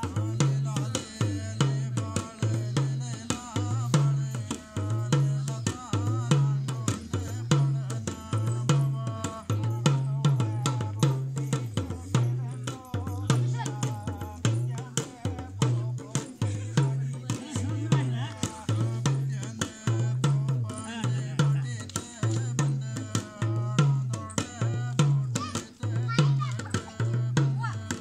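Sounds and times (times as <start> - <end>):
fast hand-drum strokes: 0.0 - 28.0.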